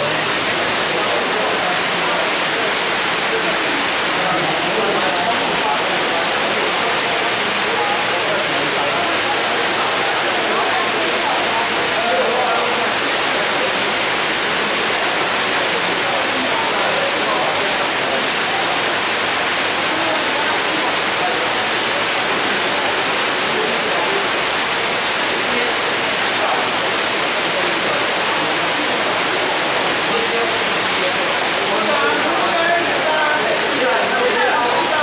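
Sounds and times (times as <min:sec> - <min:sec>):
crowd murmuring: 0:00.0 - 0:35.0
running water hiss: 0:00.0 - 0:35.0.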